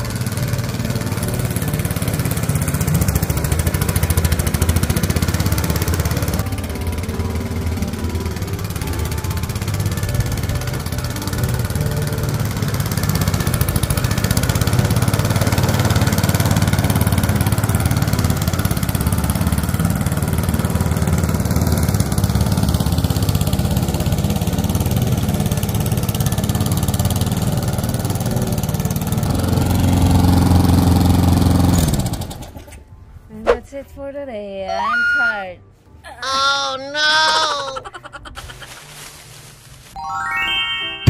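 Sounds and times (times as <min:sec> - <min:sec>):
lawn mower engine running: 0:00.0 - 0:33.0.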